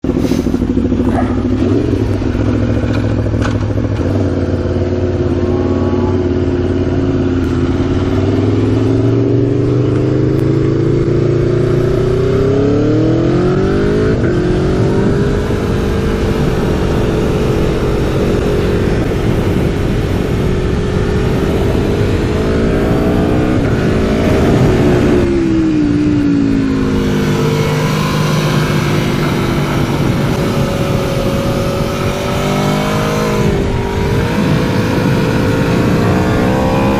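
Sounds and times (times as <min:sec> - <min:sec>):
motorcycle engine at speed: 0:00.0 - 0:36.9.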